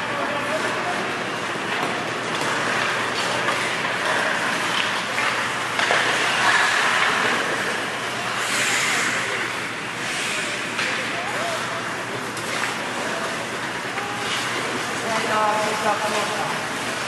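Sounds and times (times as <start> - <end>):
skates rushing on ice: 0.1 - 17.0
hockey sticks and puck clacking: 1.5 - 17.0.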